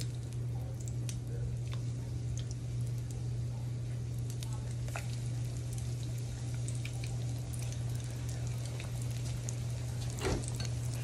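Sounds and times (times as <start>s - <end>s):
oil sizzling and crackling: 0.0s - 11.0s
steady low hum: 0.0s - 11.0s.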